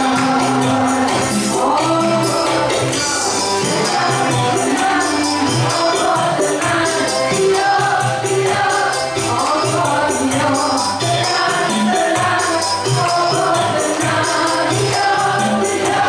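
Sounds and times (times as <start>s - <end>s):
band accompaniment: 0.0s - 16.0s
woman singing through a microphone: 0.0s - 16.0s.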